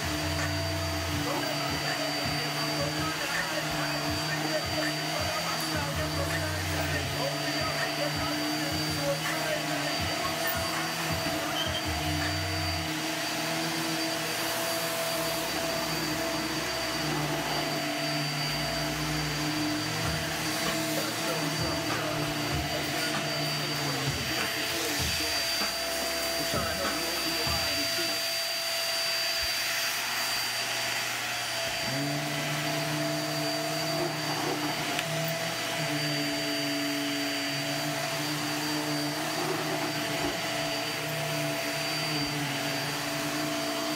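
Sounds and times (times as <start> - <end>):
vacuum cleaner motor whine: 0.0 - 43.9.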